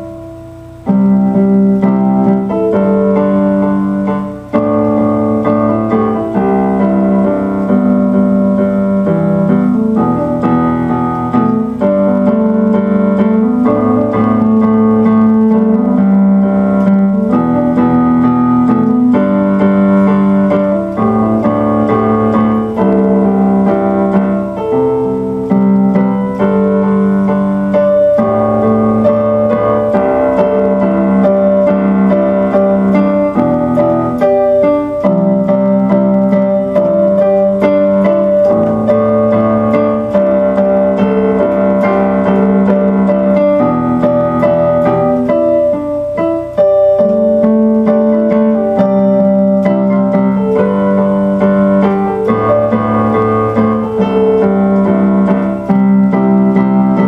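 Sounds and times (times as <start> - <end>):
piano chords: 0.0 - 57.0.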